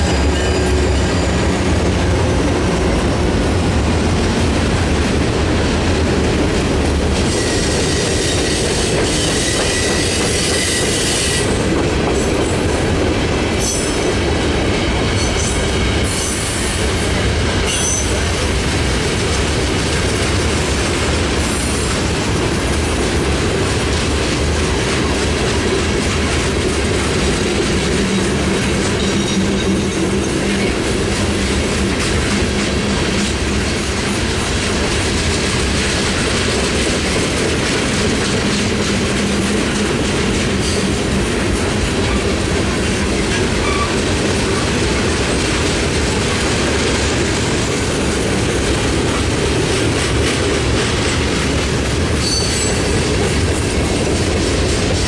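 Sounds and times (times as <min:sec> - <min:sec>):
steel wheels running on rails: 0:00.0 - 0:55.0.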